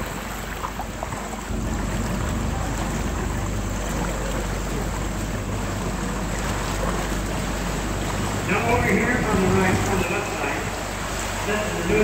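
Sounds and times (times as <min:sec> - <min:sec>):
boat motor humming: 0:00.0 - 0:12.0
water noise: 0:00.0 - 0:12.0.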